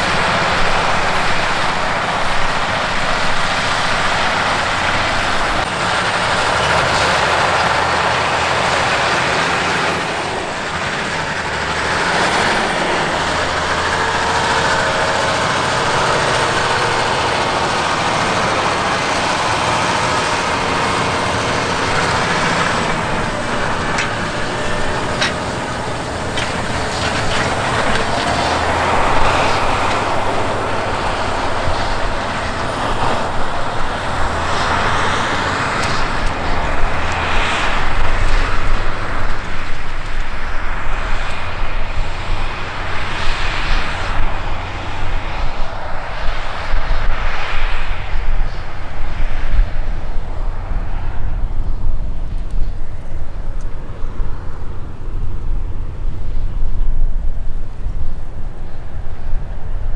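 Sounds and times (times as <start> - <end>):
diesel farm machinery running: 0.0 - 59.9
rushing noise: 0.0 - 59.9.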